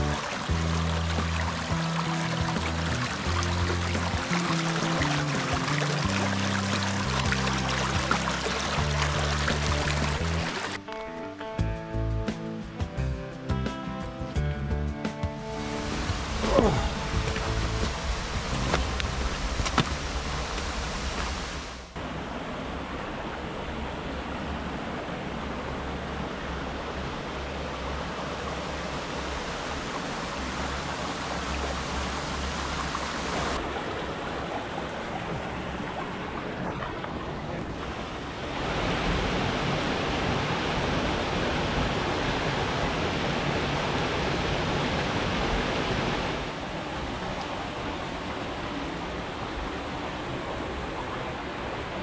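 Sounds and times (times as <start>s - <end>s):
water rushing over rocks: 0.0s - 11.0s, 15.6s - 52.0s.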